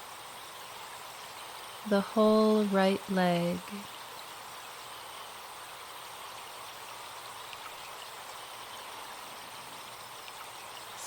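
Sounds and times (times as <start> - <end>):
forest stream running: 0.0 - 11.0.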